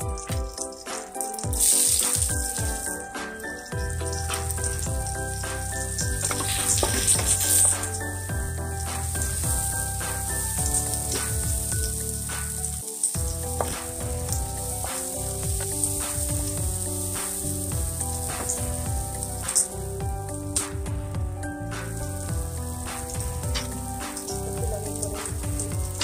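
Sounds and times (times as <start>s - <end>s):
onion sizzling in oil: 0.0s - 26.0s
soft background music: 0.0s - 26.0s.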